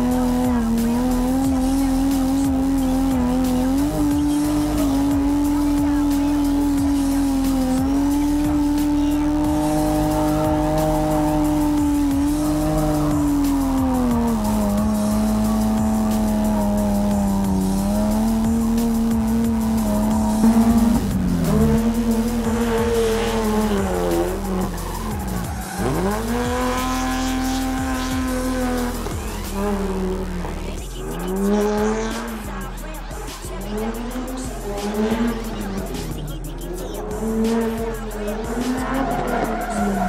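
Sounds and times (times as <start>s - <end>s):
car engine revving high: 0.0s - 40.0s
tyres squealing: 1.1s - 40.0s.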